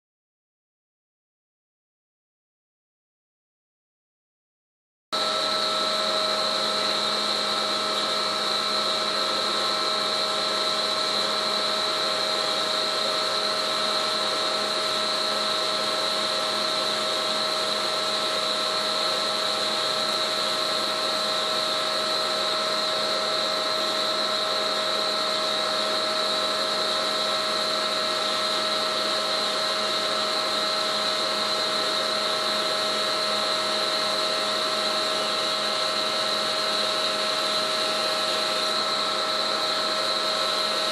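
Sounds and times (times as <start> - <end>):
hydraulic winch humming and whining: 5.2 - 40.9.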